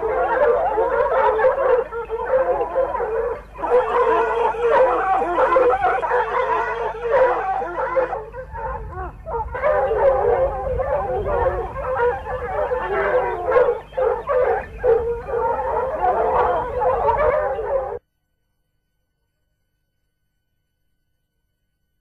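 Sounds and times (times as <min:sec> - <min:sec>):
hounds baying and howling: 0:00.0 - 0:18.0.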